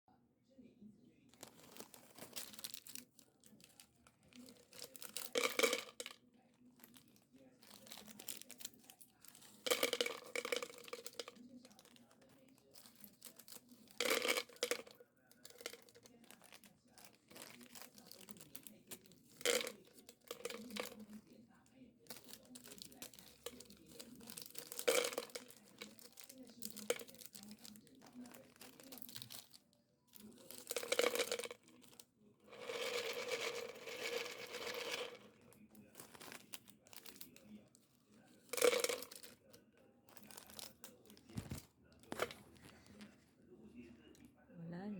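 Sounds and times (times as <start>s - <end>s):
snack packet crinkling: 1.4s - 6.0s, 6.8s - 21.0s, 22.1s - 29.6s, 30.2s - 37.5s, 40.1s - 43.1s.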